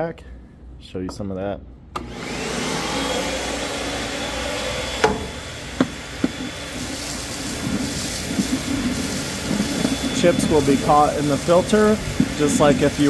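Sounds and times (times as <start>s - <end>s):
vacuum running with rushing whine: 2.0s - 13.0s.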